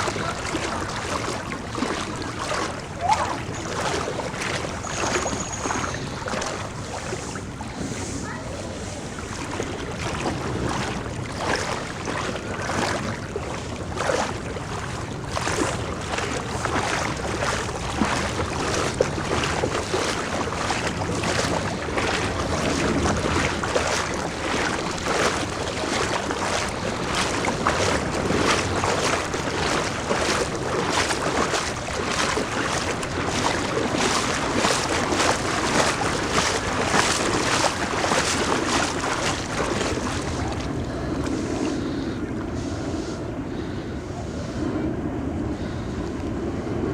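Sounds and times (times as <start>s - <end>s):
wading through splashing water: 0.0s - 44.8s.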